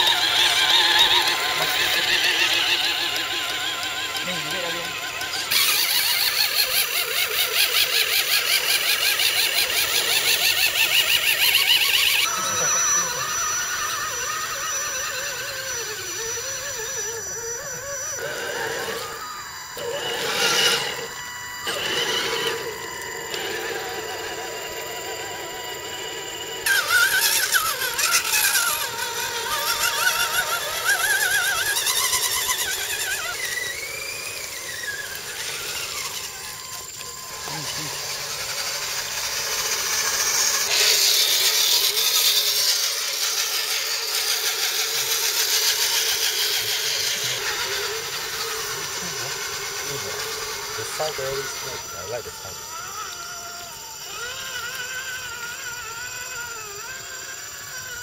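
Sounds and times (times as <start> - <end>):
electric toy truck motors whining: 0.0 - 58.0.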